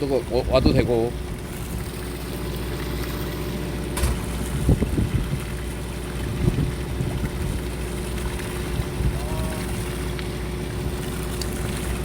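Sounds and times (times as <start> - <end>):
boat engine humming: 0.0 - 12.0
wind on microphone: 0.2 - 2.2, 4.0 - 12.0.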